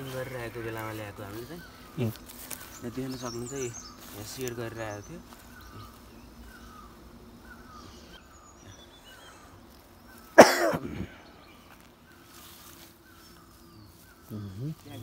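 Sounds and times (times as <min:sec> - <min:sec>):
bird calling with falling chirps: 0:00.0 - 0:15.0.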